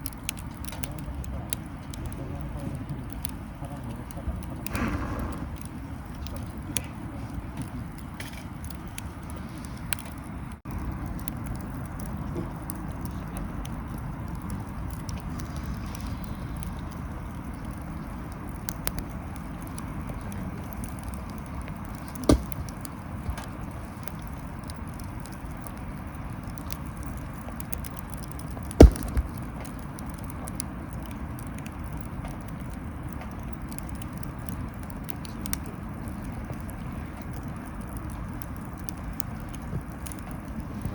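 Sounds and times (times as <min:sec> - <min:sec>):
burning wood popping: 0:00.0 - 0:40.9
wood fire hissing and crackling: 0:00.0 - 0:40.9.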